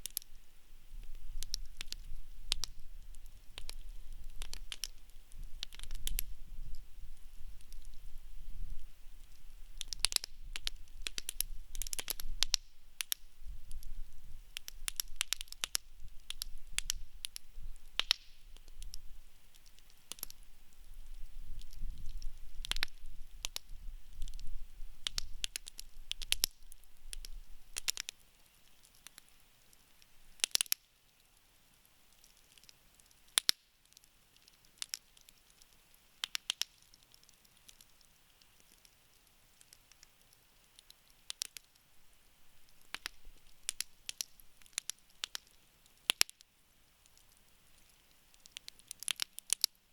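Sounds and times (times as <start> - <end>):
low rumble of fire: 0.0 - 30.6, 32.1 - 46.2
campfire crackling and popping: 0.0 - 49.9.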